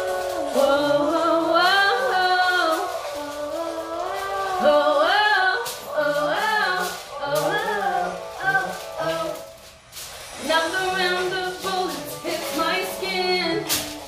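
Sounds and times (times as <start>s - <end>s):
music with singing voice: 0.0s - 14.0s.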